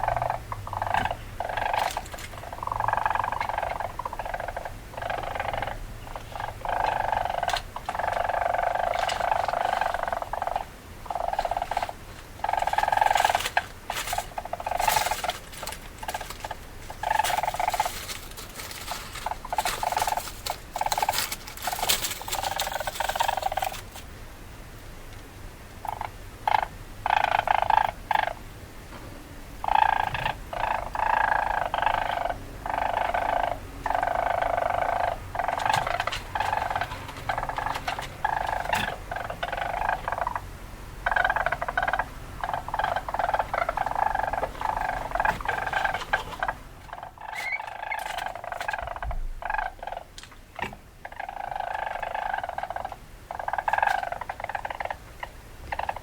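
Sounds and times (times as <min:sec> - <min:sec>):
weasel pulsing calls: 0:00.0 - 0:24.0, 0:25.8 - 0:28.4, 0:29.6 - 0:56.0.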